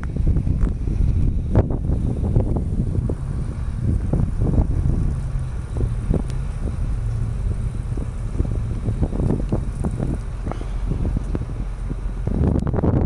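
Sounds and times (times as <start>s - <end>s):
truck engine droning: 0.0s - 13.0s
wind buffeting microphone: 0.0s - 13.0s.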